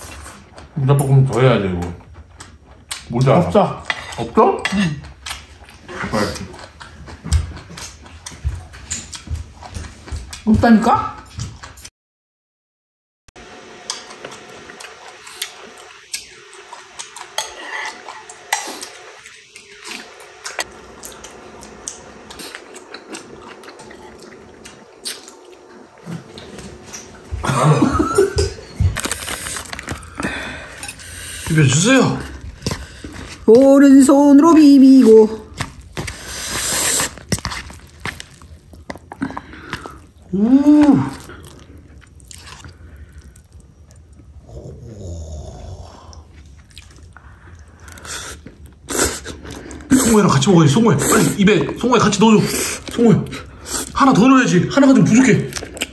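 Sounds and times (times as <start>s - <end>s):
chewing food: 0.0s - 10.6s, 13.8s - 33.8s, 34.8s - 45.2s, 45.9s - 54.3s, 54.9s - 55.9s.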